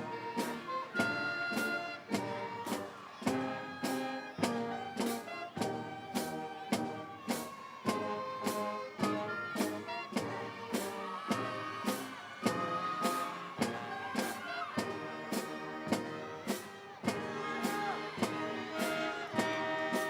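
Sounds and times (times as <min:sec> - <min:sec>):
steady drum beat: 0:00.0 - 0:20.0.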